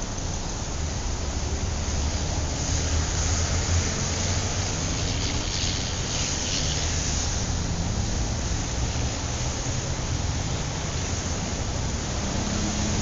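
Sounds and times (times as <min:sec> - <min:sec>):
road and engine rumble: 0:00.0 - 0:13.0
tyre and wind noise hiss: 0:00.0 - 0:13.0.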